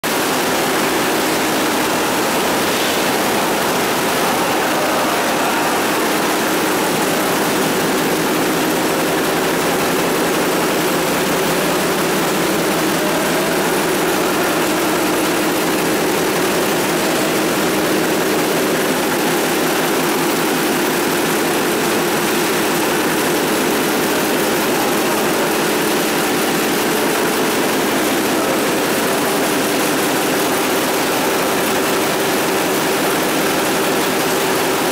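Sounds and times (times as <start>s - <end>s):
machinery drone and rattle: 0.1s - 34.9s.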